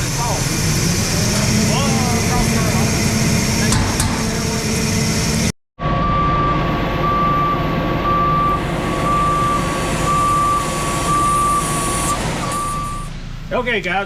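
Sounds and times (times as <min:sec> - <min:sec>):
truck reversing alarm beeping: 0:00.0 - 0:13.2
diesel engine running: 0:00.0 - 0:14.0.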